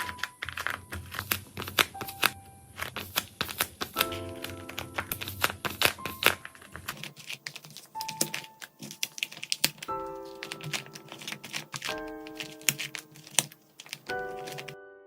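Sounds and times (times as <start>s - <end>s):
packaging clicks and taps: 0.0s - 14.8s
background music with held notes: 0.0s - 15.0s.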